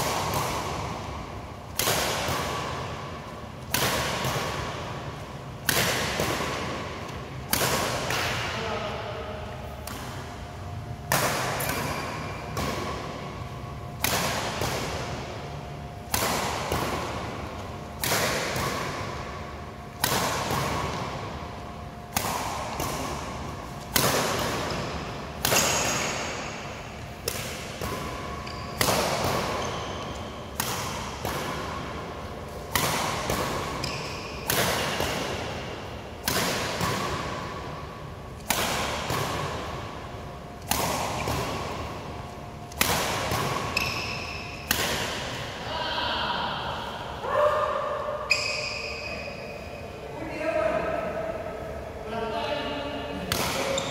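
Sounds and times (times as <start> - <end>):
rackets hitting shuttlecock: 0.0 - 8.7, 9.6 - 45.6, 53.2 - 53.9.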